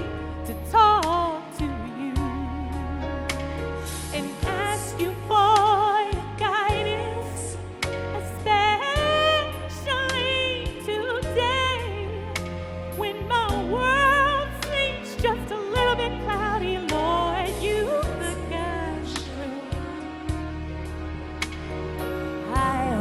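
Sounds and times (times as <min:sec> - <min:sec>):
slow pop song with vibrato vocals: 0:00.0 - 0:23.0.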